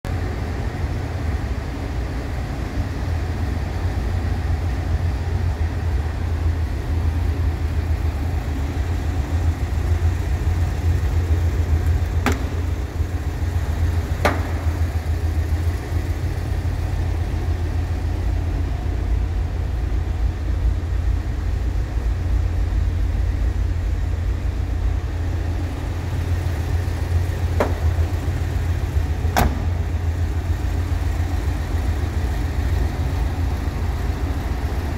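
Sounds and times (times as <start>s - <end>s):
van engine idling: 0.1s - 34.9s.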